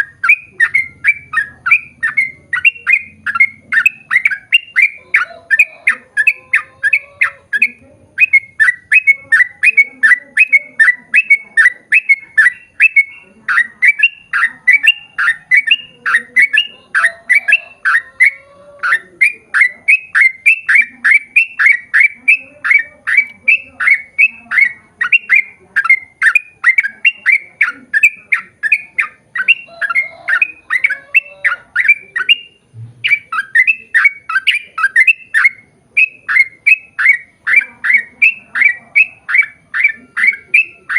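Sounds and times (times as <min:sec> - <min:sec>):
bird chattering: 0:00.0 - 0:40.9.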